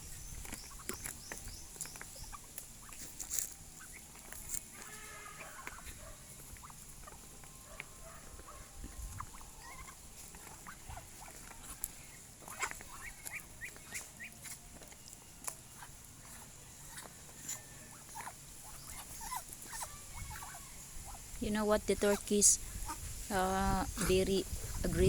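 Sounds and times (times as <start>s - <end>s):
poultry peeping and chirping: 0.0s - 25.0s.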